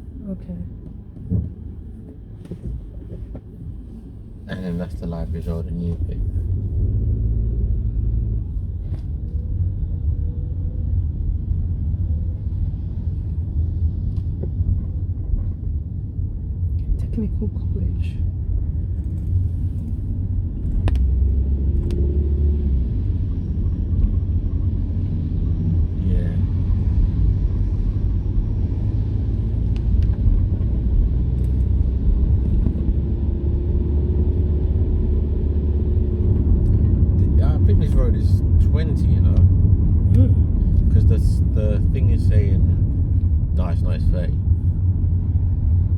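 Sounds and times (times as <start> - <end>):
car interior rumble: 0.0 - 45.9.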